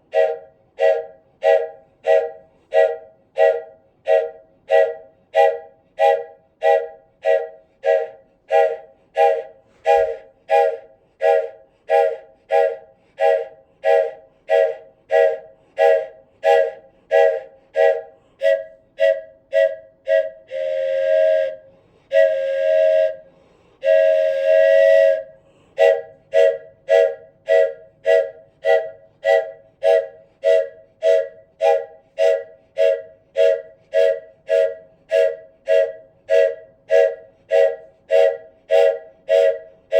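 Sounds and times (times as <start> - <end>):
wooden train whistle puffs: 0.0 - 39.9.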